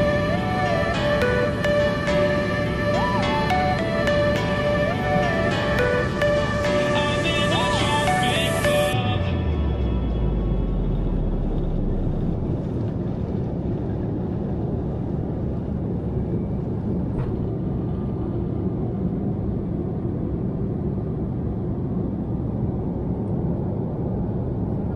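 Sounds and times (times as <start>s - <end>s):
airliner cabin engine rush: 0.0s - 24.9s.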